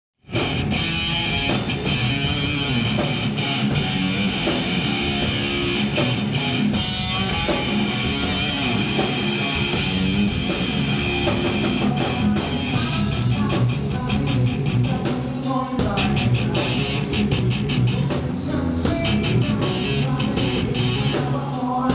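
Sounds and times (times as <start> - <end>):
electric guitar: 0.2 - 21.9
rock band playing: 0.2 - 21.9.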